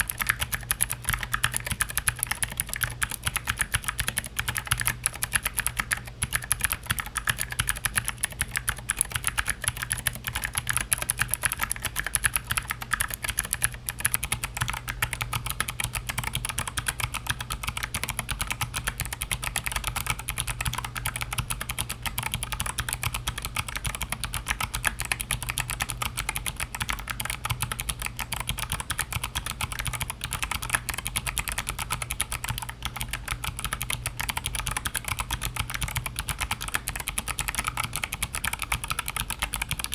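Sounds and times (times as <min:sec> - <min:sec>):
clicky keyboard typing: 0:00.0 - 0:39.9.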